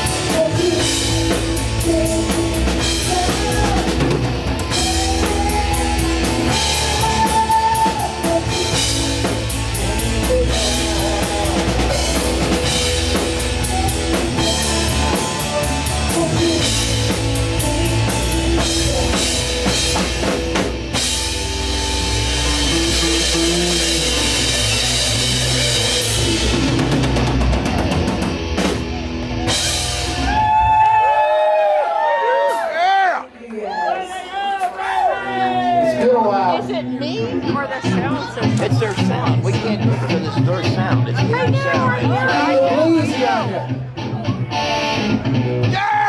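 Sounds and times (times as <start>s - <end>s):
electric guitar: 0.0s - 31.4s, 36.6s - 46.0s
drum kit: 0.0s - 31.7s, 37.4s - 46.0s
bass guitar: 0.0s - 32.4s, 34.9s - 46.0s.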